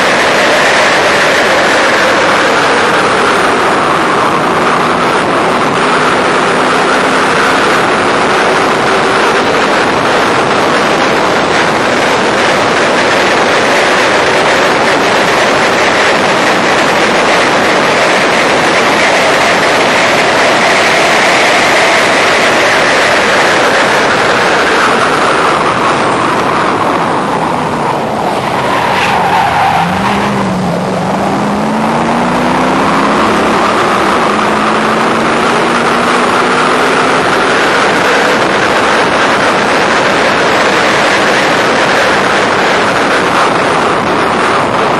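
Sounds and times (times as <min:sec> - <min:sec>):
race car engine revving: 0:00.0 - 0:44.9
wind rushing over microphone: 0:00.0 - 0:44.9.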